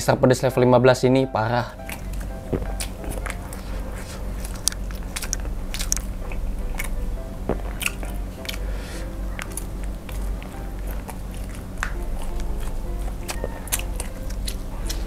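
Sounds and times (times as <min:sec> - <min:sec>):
soft background music: 0:00.0 - 0:15.0
wet chewing and mouth smacks: 0:01.8 - 0:15.0.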